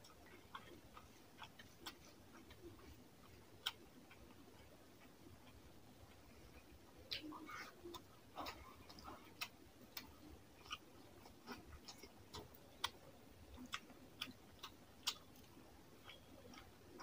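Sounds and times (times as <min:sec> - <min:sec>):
wet eating clicks and smacks: 0:00.0 - 0:17.0.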